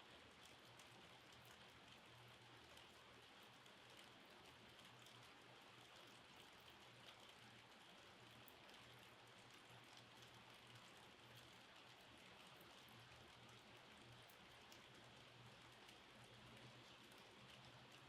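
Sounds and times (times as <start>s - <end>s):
rain drops ticking: 0.0s - 18.0s.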